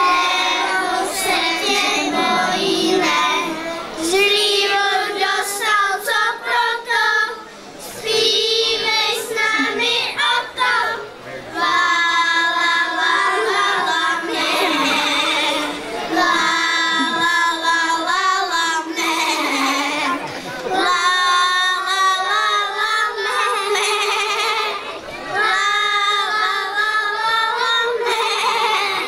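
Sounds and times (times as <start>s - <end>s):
children singing: 0.0s - 29.0s.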